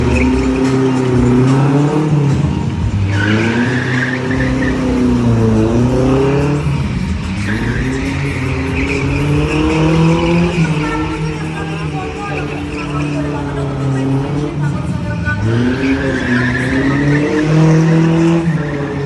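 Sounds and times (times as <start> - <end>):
car engine revving: 0.0 - 19.0
tyres squealing: 0.0 - 19.0.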